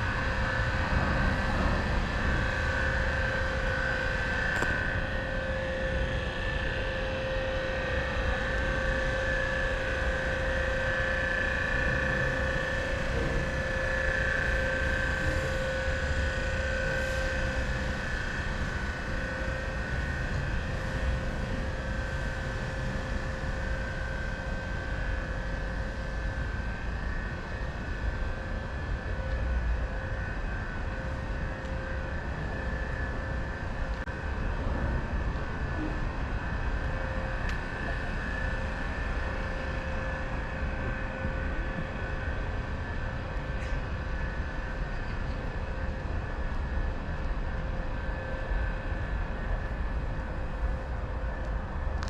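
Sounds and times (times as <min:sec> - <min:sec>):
held humming tones: 0:00.0 - 0:52.0
steady mechanical drone: 0:00.0 - 0:52.0.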